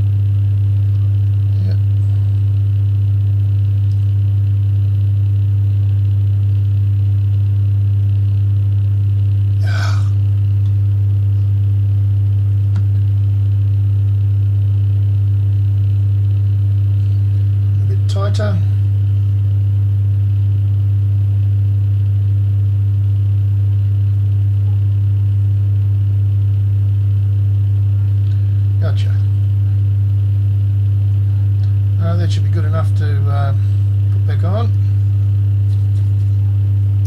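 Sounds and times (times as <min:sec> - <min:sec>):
electrical hum: 0:00.0 - 0:37.0.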